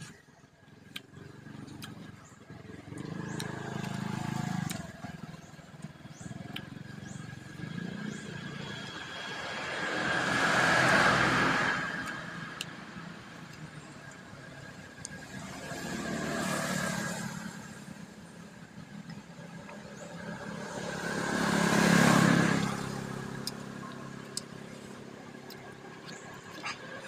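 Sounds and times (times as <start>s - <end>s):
motorcycle passing: 0.1s - 27.0s.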